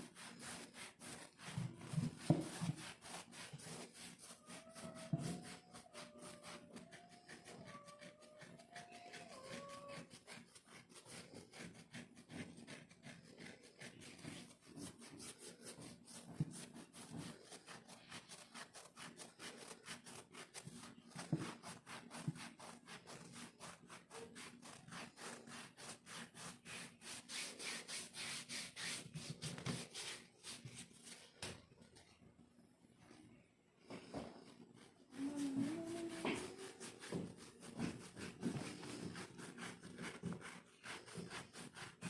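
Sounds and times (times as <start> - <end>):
scratching dry skin: 0.0 - 31.3, 34.8 - 42.0.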